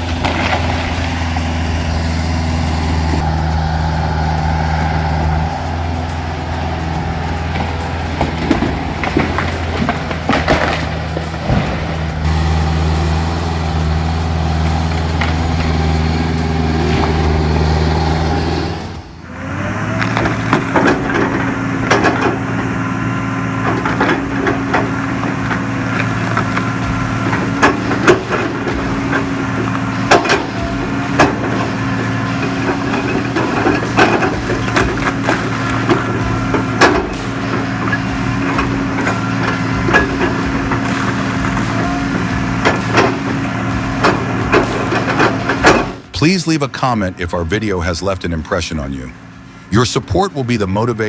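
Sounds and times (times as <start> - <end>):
wood cracking and splintering: 0.0 - 3.2, 4.4 - 19.0, 19.9 - 46.2
heavy diesel engine under load: 0.0 - 51.0.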